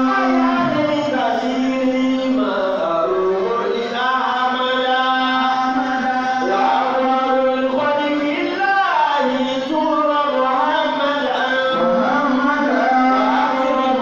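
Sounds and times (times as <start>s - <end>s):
man chanting into microphone: 0.0s - 14.0s.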